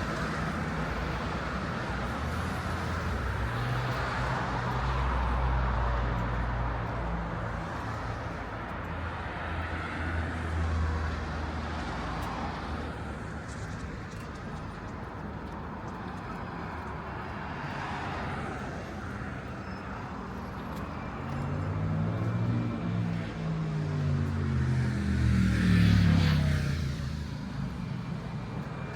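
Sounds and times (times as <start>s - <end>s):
cars passing: 0.0s - 28.9s.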